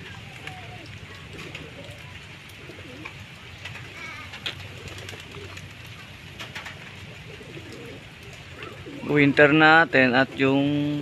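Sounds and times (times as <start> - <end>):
pigeons cooing softly: 0.0 - 11.0.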